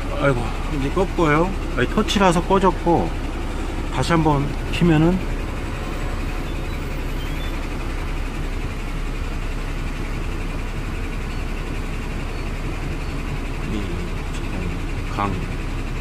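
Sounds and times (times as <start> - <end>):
air purifier fan running: 0.0 - 16.0.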